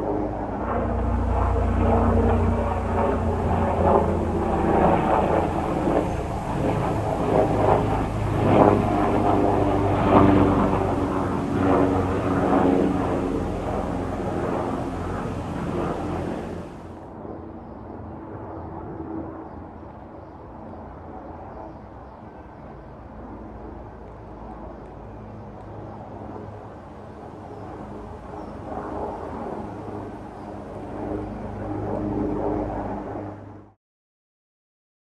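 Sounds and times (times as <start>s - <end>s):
helicopter flying overhead: 0.0s - 33.8s.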